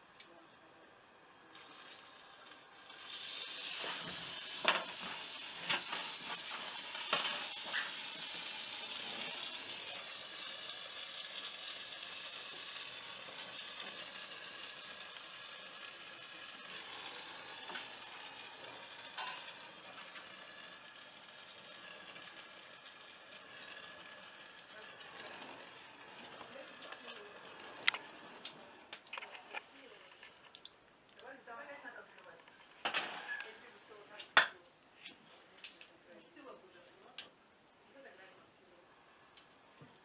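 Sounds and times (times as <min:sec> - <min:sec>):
steady hiss: 0:00.0 - 0:34.2.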